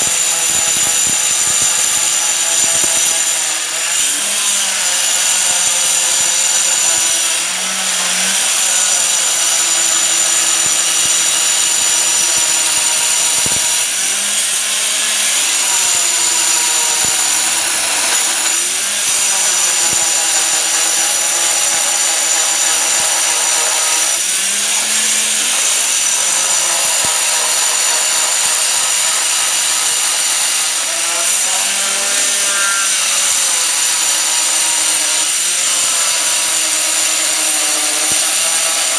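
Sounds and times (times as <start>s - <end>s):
stone-cutting machine grinding: 0.0s - 38.9s.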